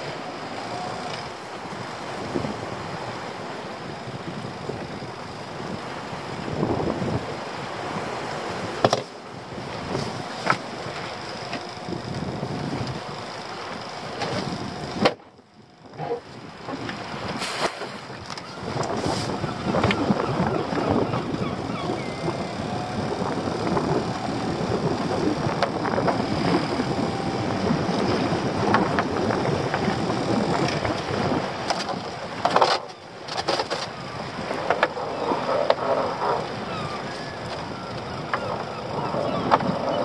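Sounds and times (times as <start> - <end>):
sea water rushing around boat: 0.0 - 40.0
wind: 0.0 - 40.0.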